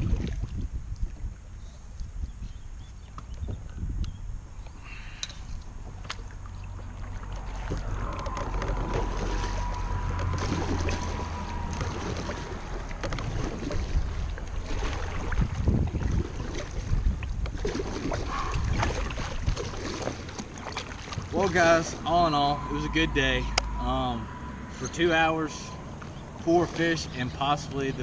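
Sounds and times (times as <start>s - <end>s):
wind rumble on microphone: 0.0s - 27.0s
water lapping around kayak: 0.0s - 28.0s.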